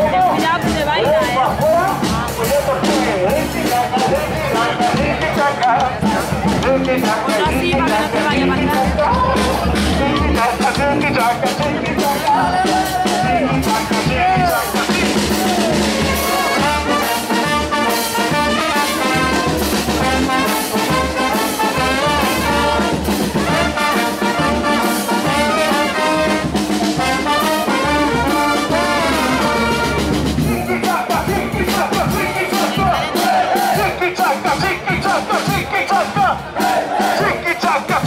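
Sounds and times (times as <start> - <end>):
bass drum: 0.0 - 38.0
brass band playing: 0.0 - 38.0
snare drum: 0.0 - 38.0.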